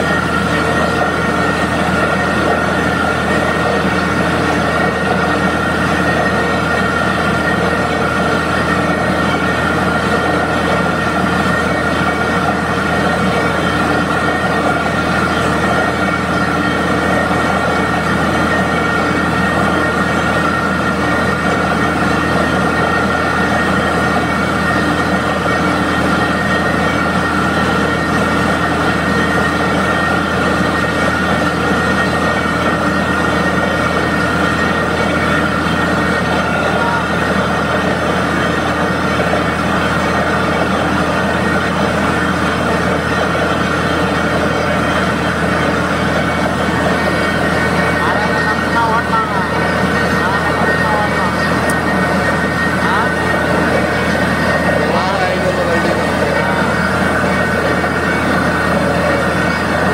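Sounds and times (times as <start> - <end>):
drilling rig running with rattle: 0.0 - 59.9.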